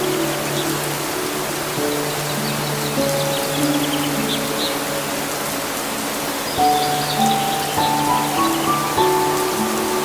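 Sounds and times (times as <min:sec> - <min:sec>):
soft music of held notes: 0:00.0 - 0:10.0
steady rain hiss: 0:00.0 - 0:10.0.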